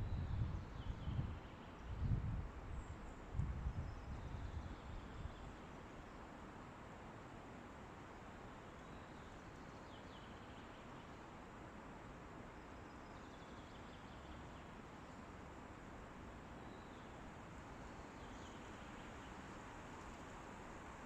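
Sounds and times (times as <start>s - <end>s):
faint wind in forest: 0.0s - 21.0s.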